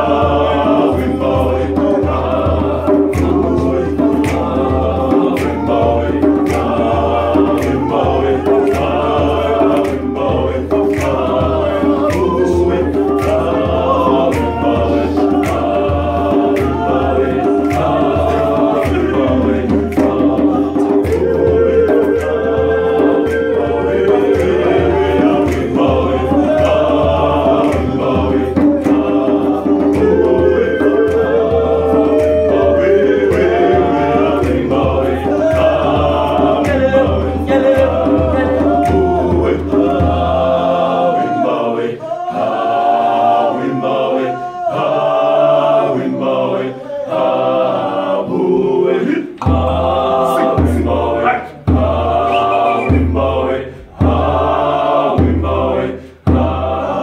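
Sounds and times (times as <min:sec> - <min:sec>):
male a cappella group singing: 0:00.0 - 0:57.0.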